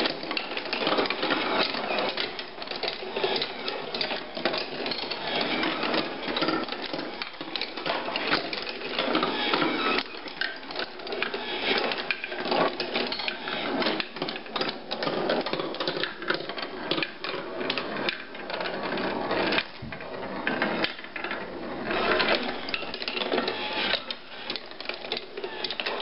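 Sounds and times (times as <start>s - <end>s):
metal balls rolling on wooden tracks: 0.0s - 26.0s.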